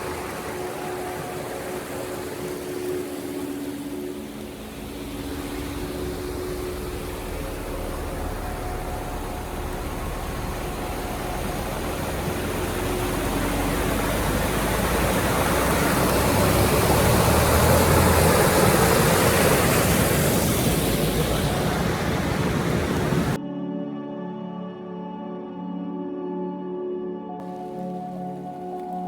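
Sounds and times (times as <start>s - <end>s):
steady rushing noise: 0.0s - 23.4s.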